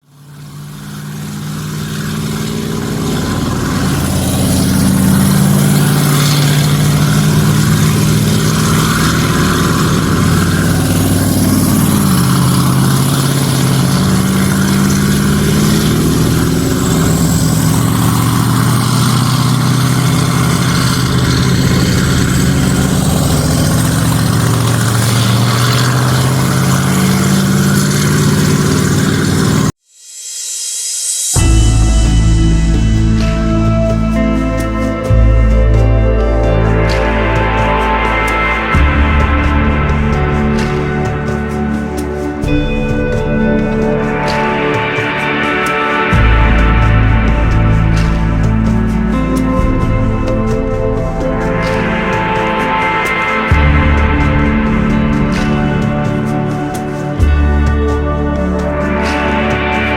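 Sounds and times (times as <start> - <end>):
vehicle engines running: 0.0 - 29.8, 31.4 - 59.9.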